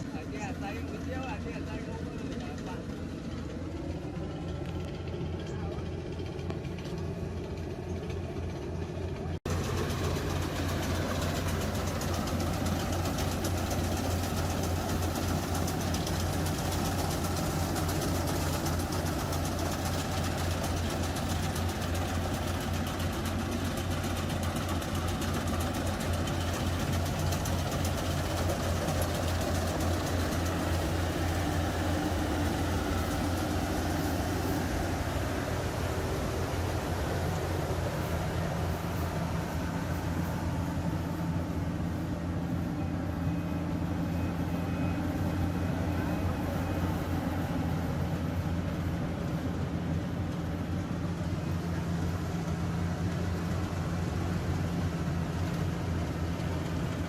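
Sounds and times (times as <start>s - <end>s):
harvester engine running: 0.0s - 57.0s.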